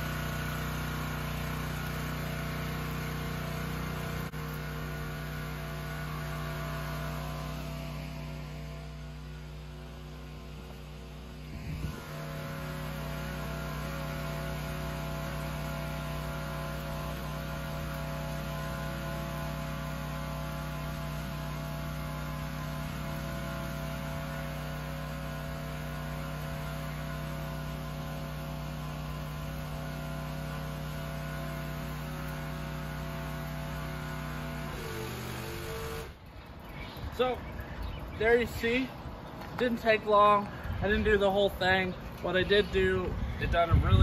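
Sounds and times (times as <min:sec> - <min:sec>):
water spray hissing: 0:00.0 - 0:36.2
pressure washer engine running: 0:00.0 - 0:44.0.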